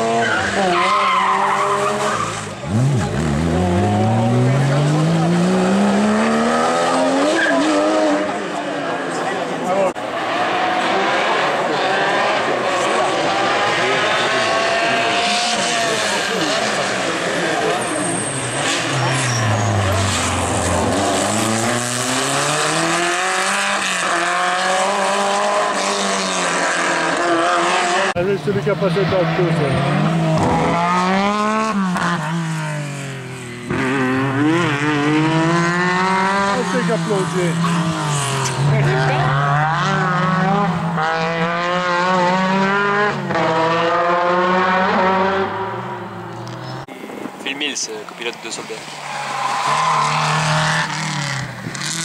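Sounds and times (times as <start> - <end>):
rally car engine revving: 0.0 - 47.4, 48.2 - 52.0
second rally car accelerating: 0.0 - 52.0.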